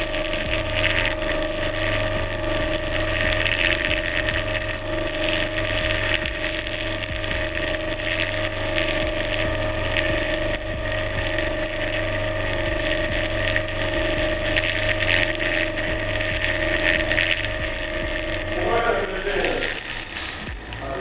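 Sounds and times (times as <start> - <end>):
angle grinder humming and whining: 0.0 - 21.0.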